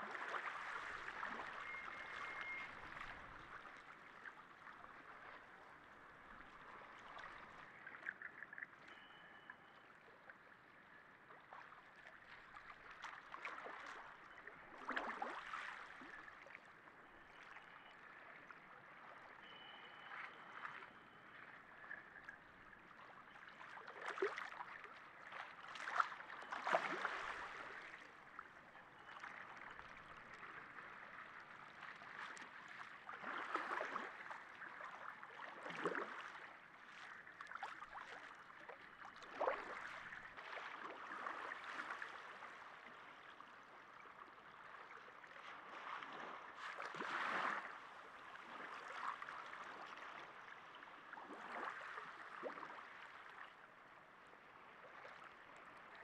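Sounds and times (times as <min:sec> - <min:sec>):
waves lapping and sloshing: 0:00.0 - 0:56.0.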